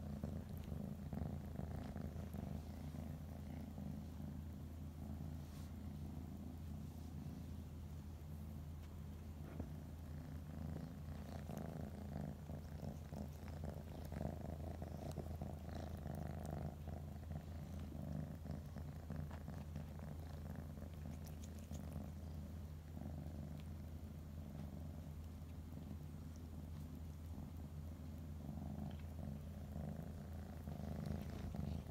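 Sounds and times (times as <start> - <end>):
cat purring: 0.0 - 31.9
soft rustling: 0.0 - 31.9.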